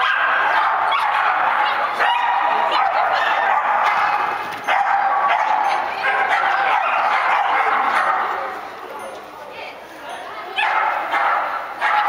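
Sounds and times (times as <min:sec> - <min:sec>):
dog barking in high-pitched yaps: 0:00.0 - 0:08.5, 0:10.5 - 0:12.0.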